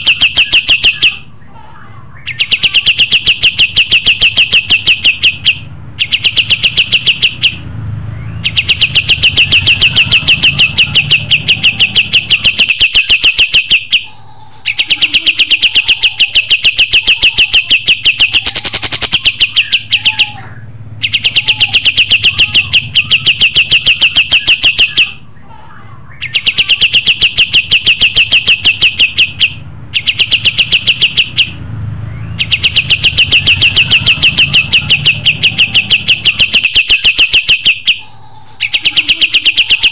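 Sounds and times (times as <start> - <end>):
songbird singing loud chirps: 2.1 - 25.4, 26.0 - 39.9.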